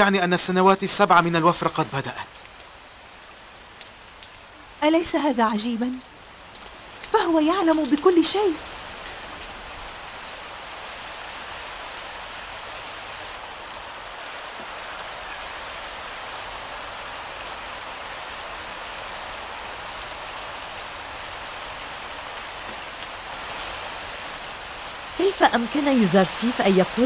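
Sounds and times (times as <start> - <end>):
rain on stone paving: 0.0 - 27.0.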